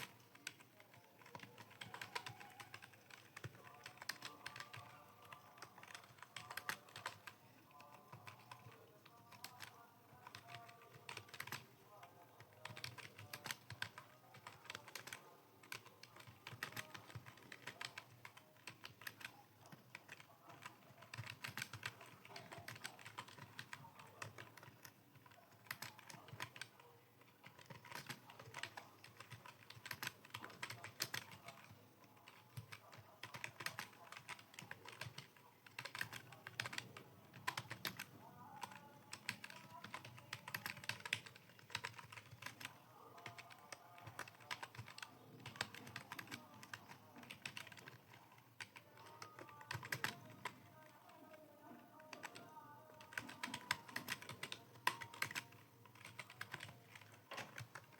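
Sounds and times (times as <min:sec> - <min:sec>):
typing on computer keyboard: 0:00.0 - 0:57.9.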